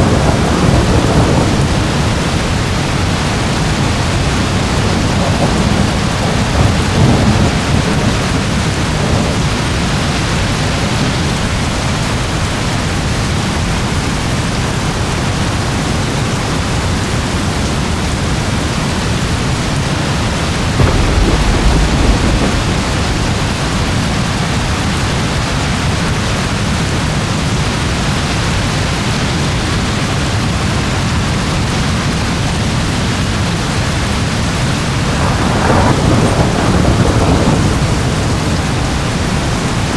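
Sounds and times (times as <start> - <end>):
thunder rolling: 0.0 - 14.5, 17.6 - 39.9
heavy rain: 0.0 - 39.9.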